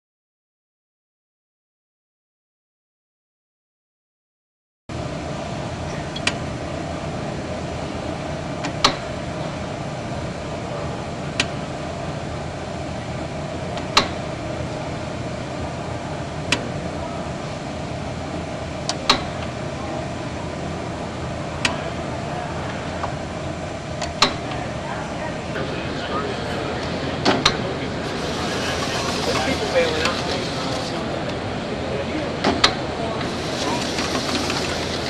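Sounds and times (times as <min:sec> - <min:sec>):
machine mechanical hum: 0:04.9 - 0:35.0.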